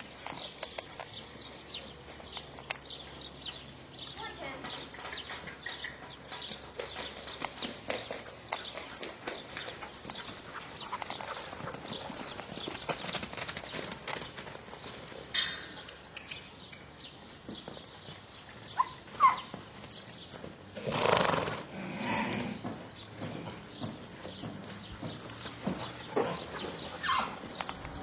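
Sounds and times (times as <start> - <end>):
hoofbeats on dirt: 0.0 - 28.0.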